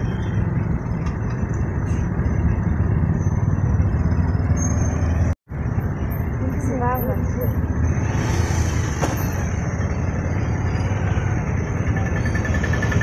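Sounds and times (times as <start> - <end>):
motorcycles and cars passing: 0.0 - 13.0.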